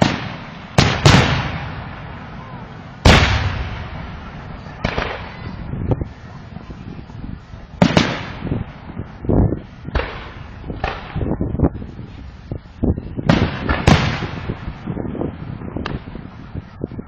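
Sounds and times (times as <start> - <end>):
fireworks booms and crackling: 0.0 - 16.6.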